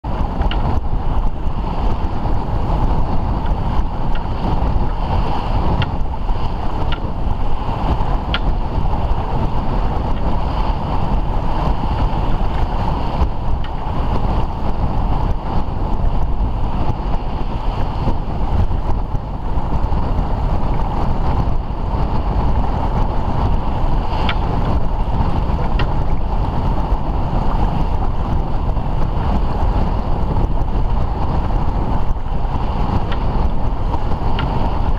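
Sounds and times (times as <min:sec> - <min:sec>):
water splashing along hull: 0:00.0 - 0:34.9
wind buffeting microphone: 0:00.0 - 0:34.9.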